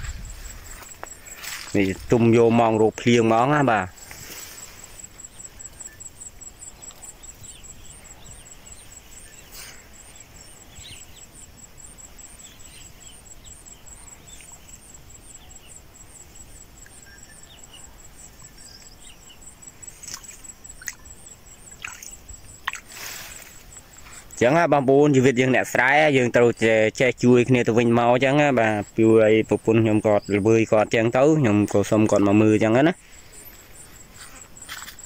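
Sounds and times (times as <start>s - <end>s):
birds chirping: 0.0s - 35.0s
faint background noise: 0.0s - 35.0s
insect pulsing call: 0.0s - 35.0s.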